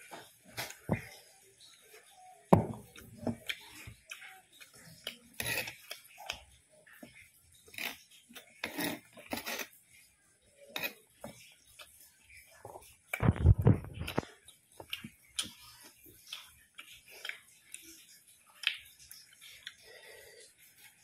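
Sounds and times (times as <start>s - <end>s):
man chewing food: 2.7s - 21.0s.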